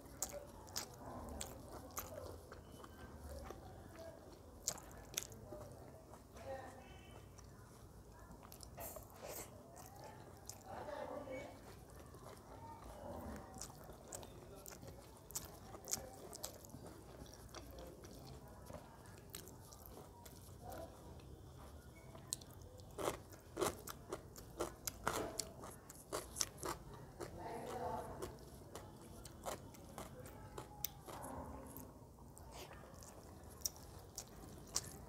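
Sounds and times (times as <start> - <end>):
person chewing: 0.0 - 6.3, 7.0 - 10.8, 11.6 - 35.0.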